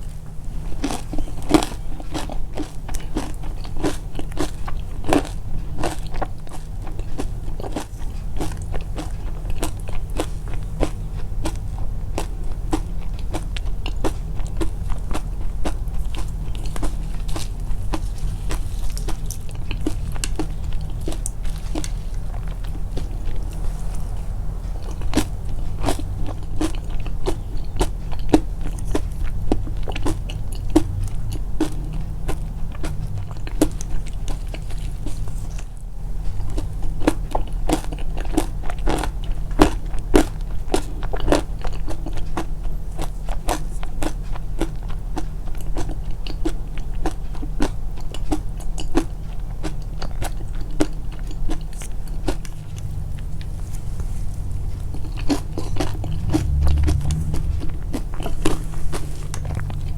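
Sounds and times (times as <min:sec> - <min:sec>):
chewing crunchy food: 0:00.0 - 0:59.9
steady low hum: 0:00.0 - 0:59.9.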